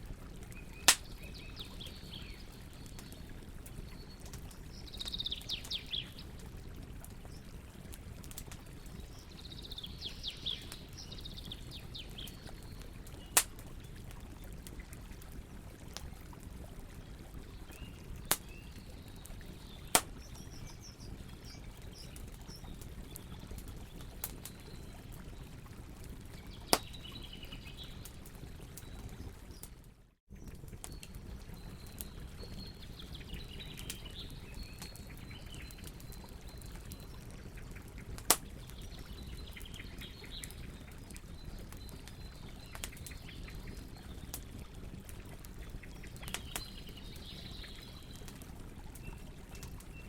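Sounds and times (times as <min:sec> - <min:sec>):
campfire crackling: 0:00.0 - 0:50.0.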